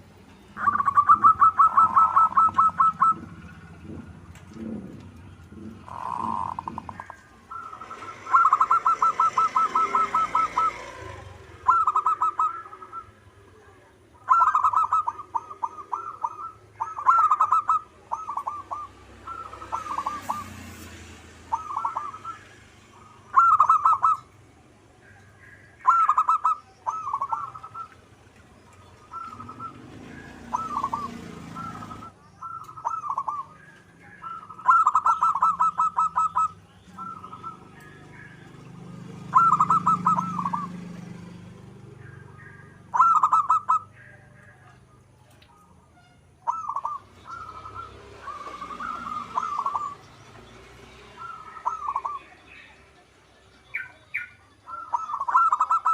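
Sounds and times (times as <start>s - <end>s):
dove cooing: 0.0s - 44.9s, 46.4s - 53.1s, 53.7s - 55.9s.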